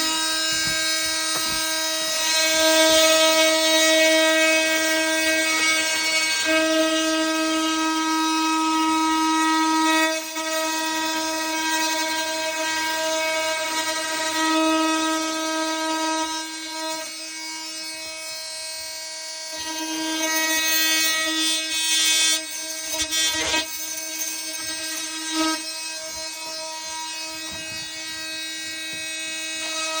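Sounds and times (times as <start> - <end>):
oscillating multi-tool cutting: 0.0 - 30.0.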